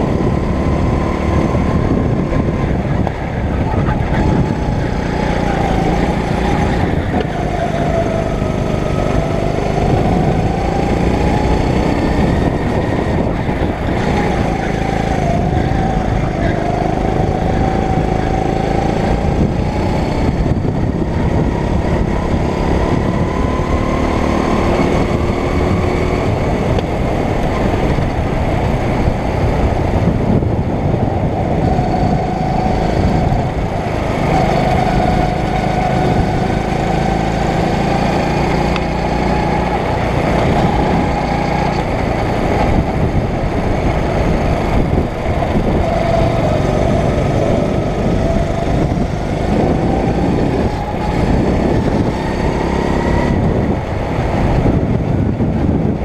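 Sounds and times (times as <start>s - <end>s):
go-kart engine running hard: 0.0s - 56.0s
road and wind rush: 0.0s - 56.0s.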